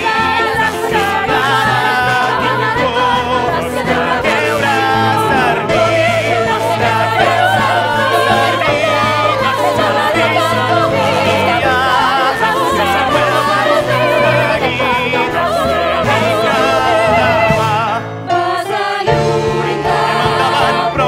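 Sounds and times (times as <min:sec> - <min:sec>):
low accompanying notes: 0:00.0 - 0:18.0
chorus of voices singing: 0:00.0 - 0:21.0.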